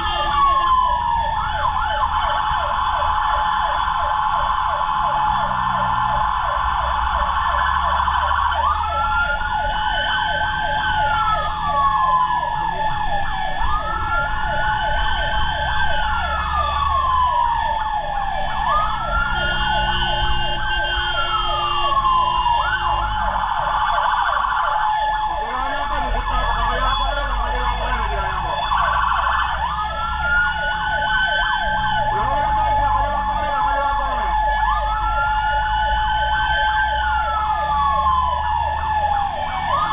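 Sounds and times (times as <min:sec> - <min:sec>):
fast-pulsing siren: 0:00.0 - 0:39.9
fire truck sirens wailing: 0:00.0 - 0:39.9
steady high siren tone: 0:00.0 - 0:39.9
truck engine rumbling: 0:00.0 - 0:39.9
warbling siren tones: 0:00.0 - 0:39.9.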